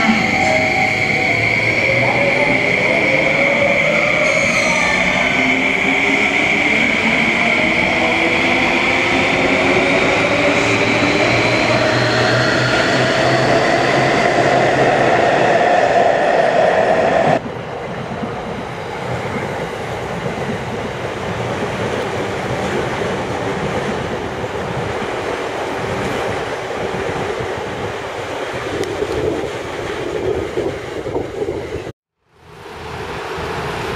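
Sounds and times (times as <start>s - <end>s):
train rumbling past: 0.0s - 31.9s.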